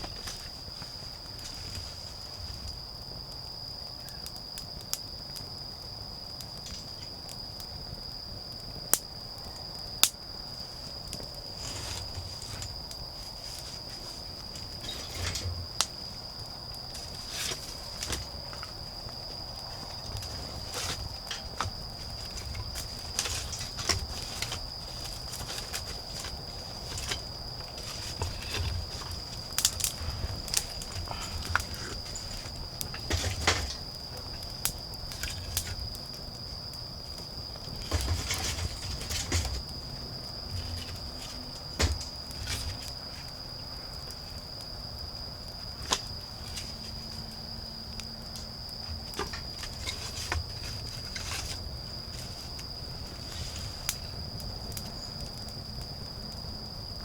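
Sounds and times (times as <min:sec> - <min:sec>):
bonfire crackling and rustling: 0:00.0 - 0:57.0
insects trilling: 0:00.0 - 0:57.0.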